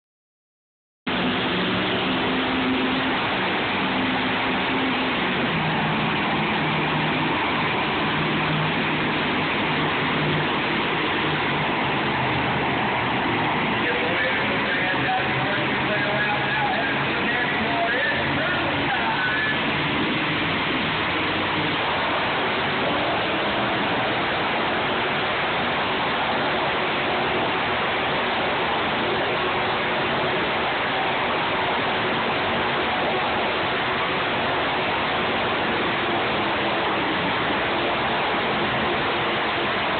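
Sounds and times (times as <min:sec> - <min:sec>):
monster truck engine running: 0:01.1 - 0:39.9.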